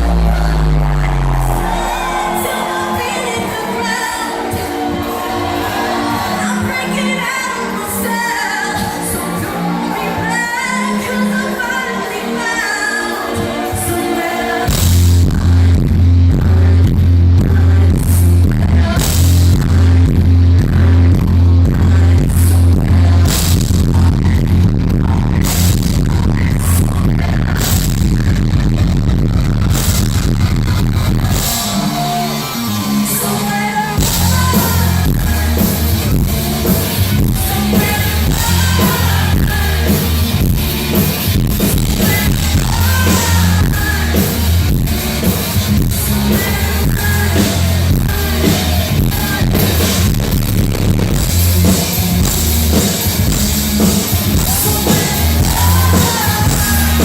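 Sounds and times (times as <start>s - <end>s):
heavy pulsing bass beat: 0.0s - 7.2s, 14.7s - 33.0s, 33.8s - 57.0s
person singing: 0.0s - 24.4s, 31.5s - 41.0s, 41.6s - 50.3s, 51.6s - 57.0s
electronic dance music: 0.0s - 57.0s.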